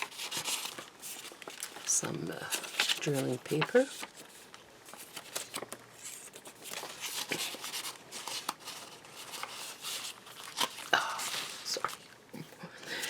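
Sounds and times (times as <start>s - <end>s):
paper rustling: 0.0s - 12.1s.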